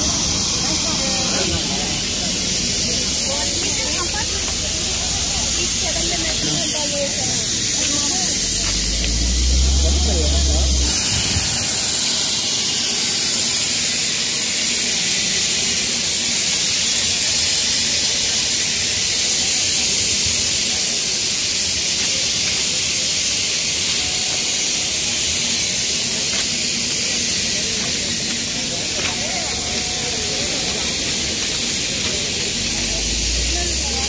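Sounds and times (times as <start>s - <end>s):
steady high hiss: 0.0s - 34.0s.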